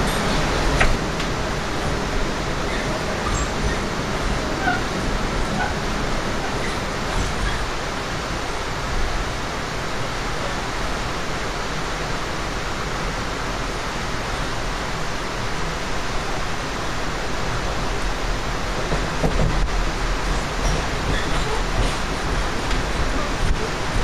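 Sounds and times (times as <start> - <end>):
train wheels rolling on rails: 0.0 - 11.1, 13.4 - 24.0.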